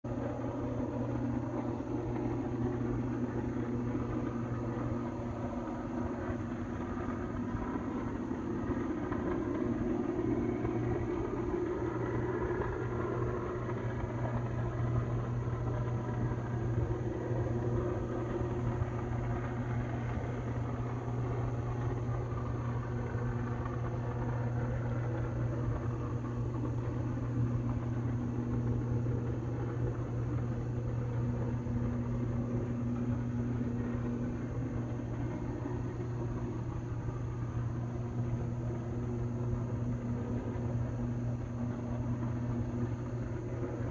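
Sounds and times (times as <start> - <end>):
low rumbling hum with buzzing: 0.0 - 43.9.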